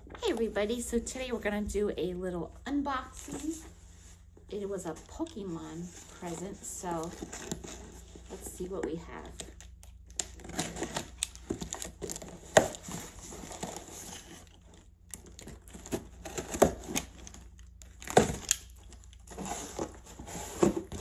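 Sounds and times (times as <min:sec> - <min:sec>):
cardboard and packing rustling: 0:02.5 - 0:21.0.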